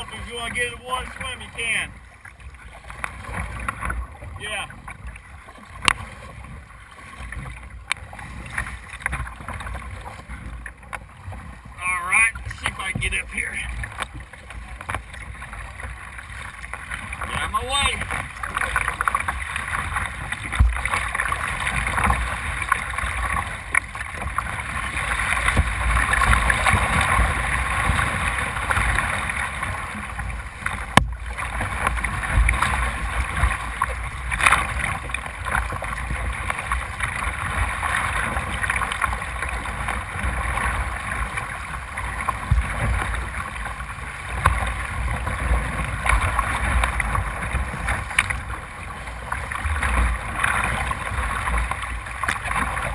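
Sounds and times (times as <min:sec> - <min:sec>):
whitewater splashing against hull: 0:00.0 - 0:52.9.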